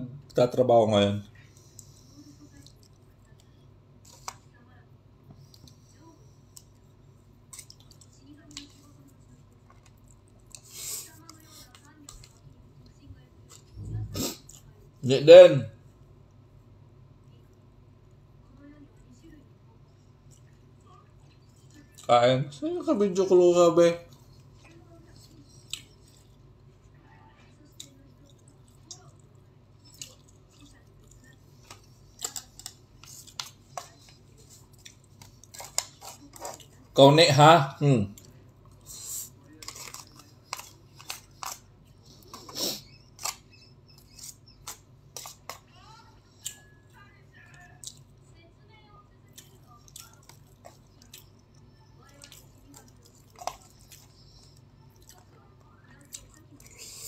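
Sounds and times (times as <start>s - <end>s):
quiet chewing: 1.4s - 4.6s, 5.2s - 15.0s, 15.8s - 22.1s, 24.0s - 37.0s, 38.0s - 48.5s, 49.1s - 57.0s.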